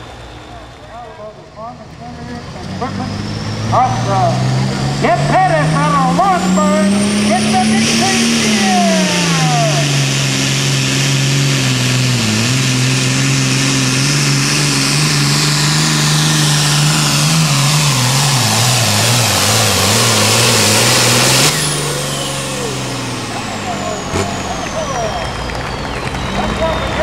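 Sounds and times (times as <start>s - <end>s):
tractor diesel engine at full throttle: 0.0s - 27.0s.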